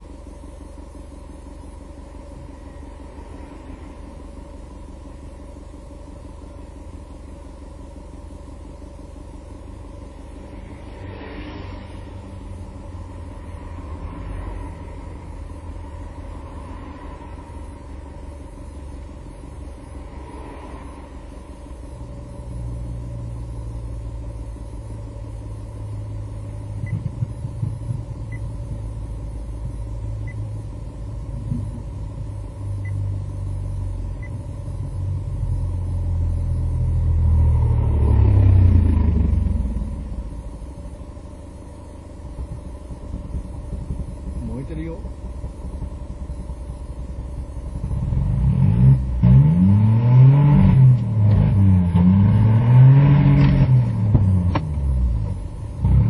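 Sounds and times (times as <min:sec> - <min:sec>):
low uneven exhaust rumble: 0:00.0 - 0:56.0.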